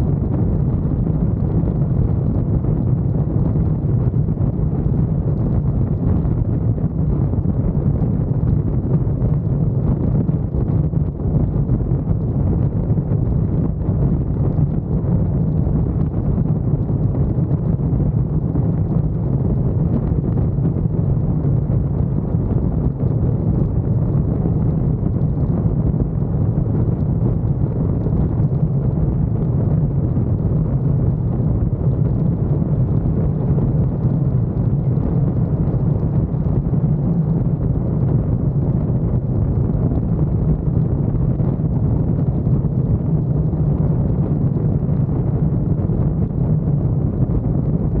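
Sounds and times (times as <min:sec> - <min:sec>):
car road and wind noise: 0:00.0 - 0:48.0.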